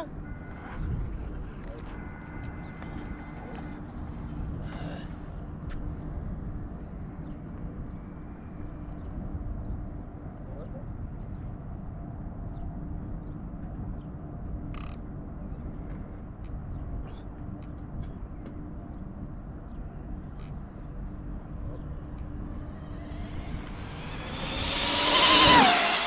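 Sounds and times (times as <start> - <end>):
low wind rumble: 0.0 - 26.0.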